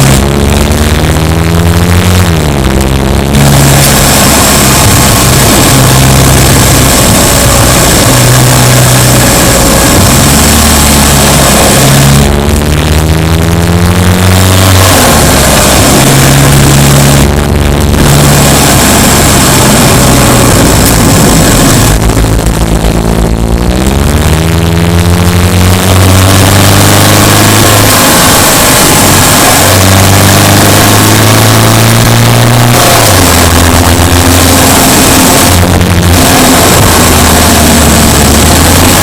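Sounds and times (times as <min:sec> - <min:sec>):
car engine accelerating: 0:00.0 - 0:39.0
road and wind noise: 0:00.0 - 0:39.0.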